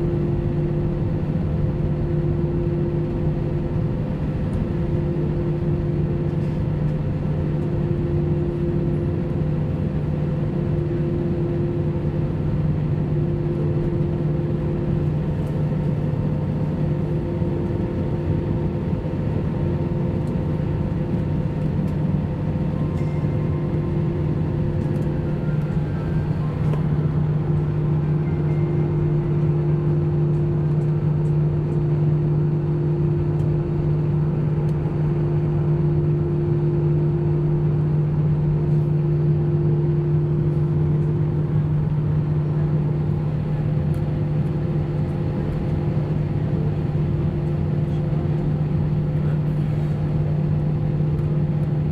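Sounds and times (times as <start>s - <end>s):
constant hum: 0.0s - 51.9s
jet engines droning: 0.0s - 51.9s.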